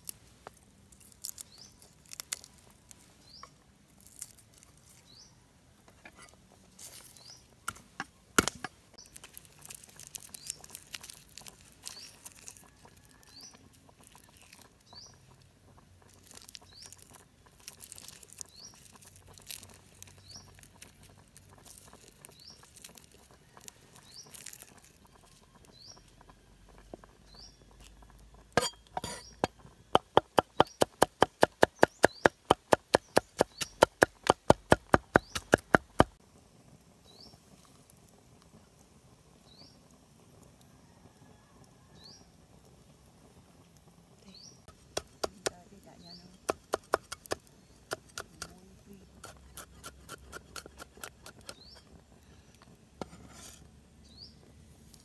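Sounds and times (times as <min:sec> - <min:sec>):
garlic skins crackling: 0:00.0 - 0:36.2, 0:42.6 - 0:55.0.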